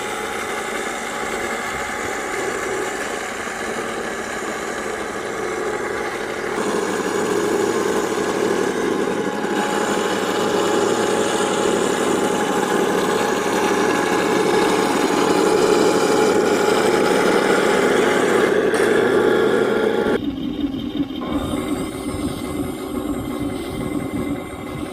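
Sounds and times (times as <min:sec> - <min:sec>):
simulated tank engine running: 0:00.0 - 0:24.9.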